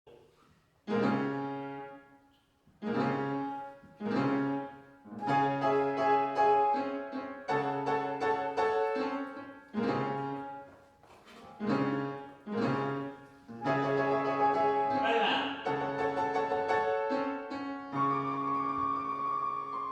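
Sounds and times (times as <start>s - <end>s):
piano playing slow chords: 0.9s - 2.2s, 2.8s - 10.7s, 11.6s - 19.9s.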